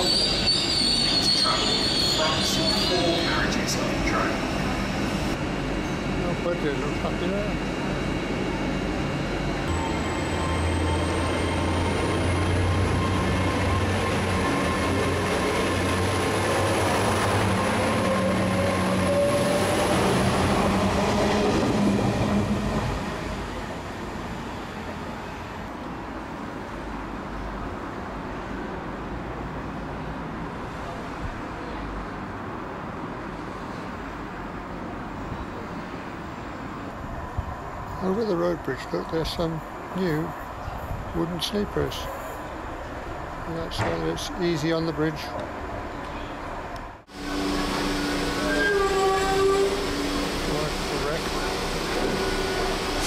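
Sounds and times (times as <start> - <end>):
train diesel engine drone: 0.0 - 53.0.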